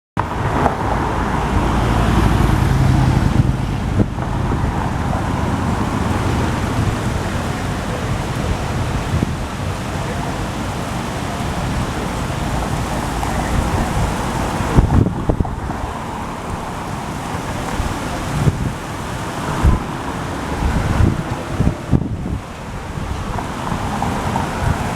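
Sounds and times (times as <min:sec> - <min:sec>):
gusty thumps: 0:00.2 - 0:24.9
ocean surf: 0:00.2 - 0:24.9
wind buffeting microphone: 0:00.2 - 0:24.9.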